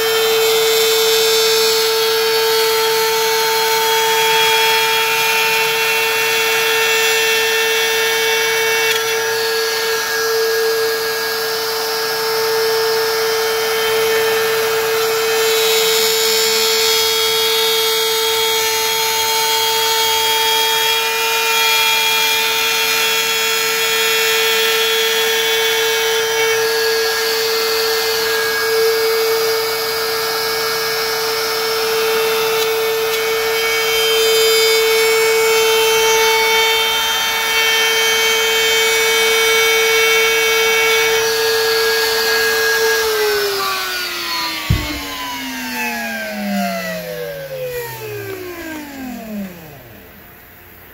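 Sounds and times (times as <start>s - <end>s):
router whining: 0.0s - 50.9s.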